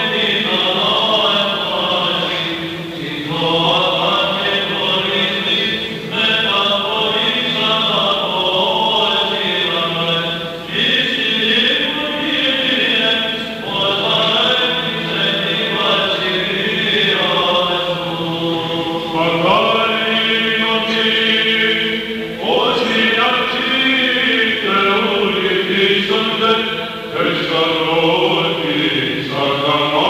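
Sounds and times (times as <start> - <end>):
held vocal drone: 0.0 - 30.0.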